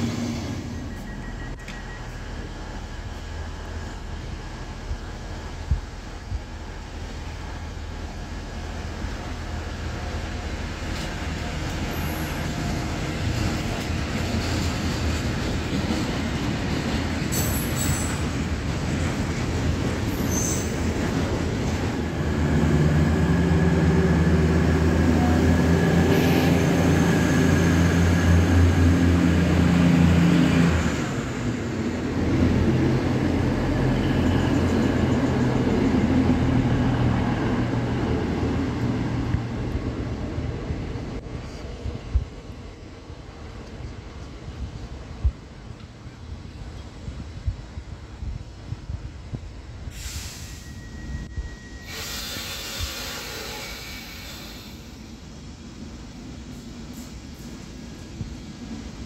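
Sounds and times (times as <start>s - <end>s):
freight train wheels rumbling: 0.0s - 59.0s
passenger train passing: 0.0s - 59.0s.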